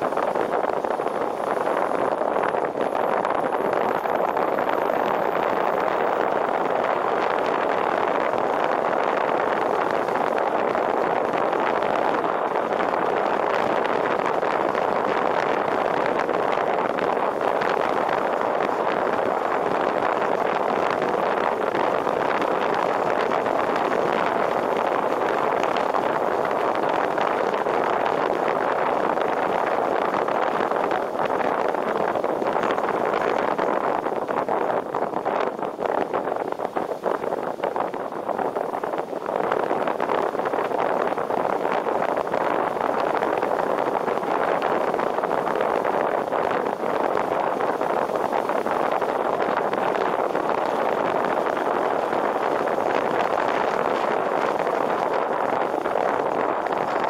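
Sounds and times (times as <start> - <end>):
car driving on wet road: 0.0 - 57.0
rain: 0.0 - 57.0
wind: 0.0 - 57.0.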